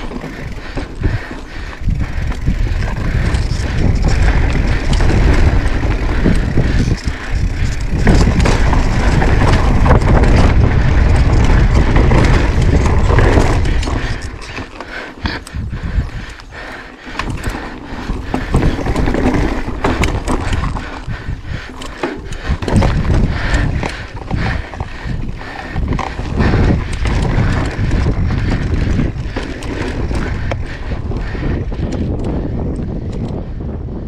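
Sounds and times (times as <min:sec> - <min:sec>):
bike rattling over rock: 0:00.0 - 0:33.4
bike tyres rumbling on rock: 0:00.0 - 0:34.0.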